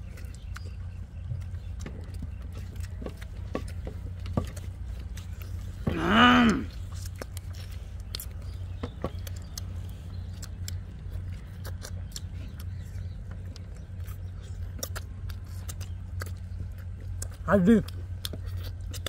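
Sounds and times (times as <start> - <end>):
low hum: 0.0 - 19.0
people chewing and eating: 0.0 - 19.0.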